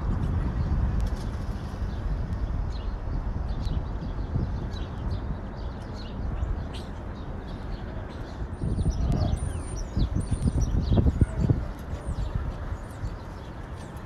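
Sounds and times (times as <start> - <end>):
low rumble of city noise: 0.0 - 14.0
small birds chirping: 1.8 - 14.0.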